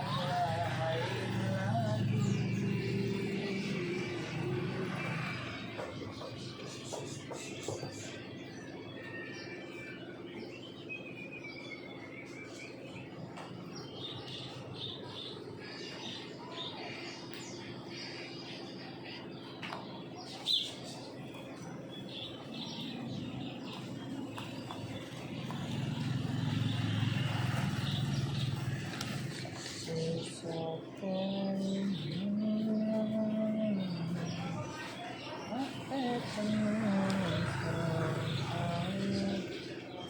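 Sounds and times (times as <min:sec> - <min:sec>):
low background hum: 0:00.0 - 0:40.0
small birds chirping: 0:00.0 - 0:40.0.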